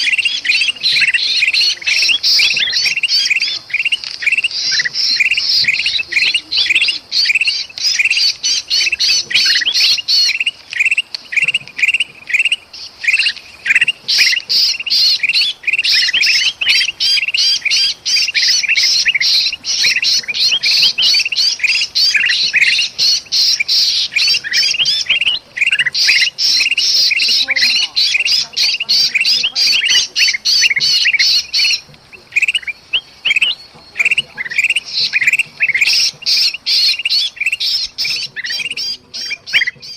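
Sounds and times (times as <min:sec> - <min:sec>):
bulbul alarm calls: 0:00.0 - 0:39.9.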